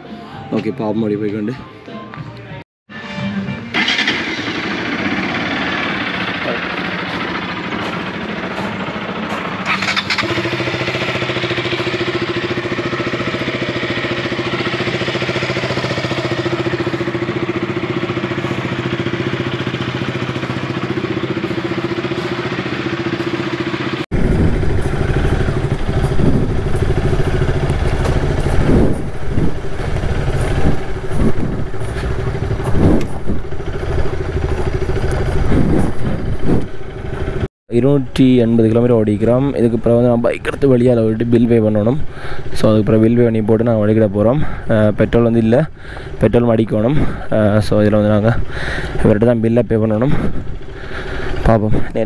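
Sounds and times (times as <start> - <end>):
motorcycle engine running: 3.7 - 37.5, 38.2 - 52.0.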